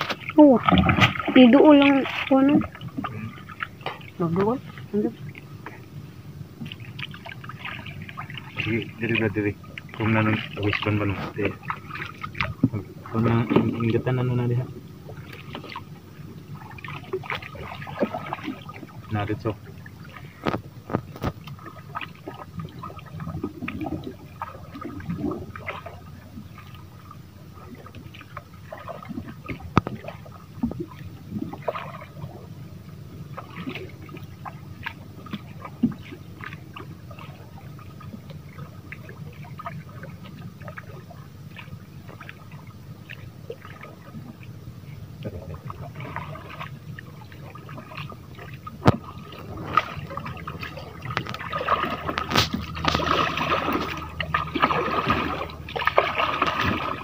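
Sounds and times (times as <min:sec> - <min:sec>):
knocks and splashes: 0:00.0 - 0:57.0
steady low hum: 0:00.0 - 0:57.0
water sloshing around boat: 0:00.0 - 0:57.0.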